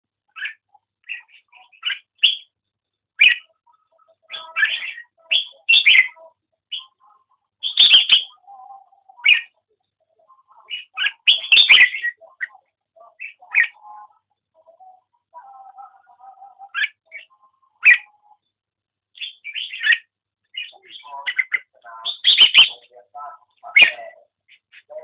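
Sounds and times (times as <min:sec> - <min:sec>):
songbird singing warbled phrases: 0:00.3 - 0:25.0.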